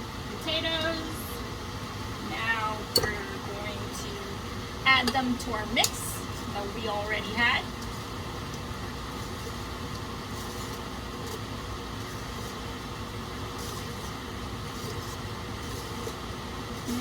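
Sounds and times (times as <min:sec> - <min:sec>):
fan-like hum: 0:00.0 - 0:17.0.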